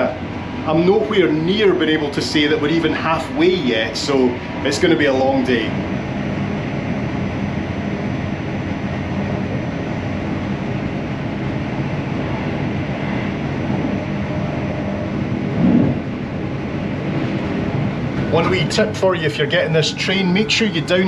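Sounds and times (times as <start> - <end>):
rail and wheel noise: 0.0 - 21.0
train engine drone: 0.0 - 21.0.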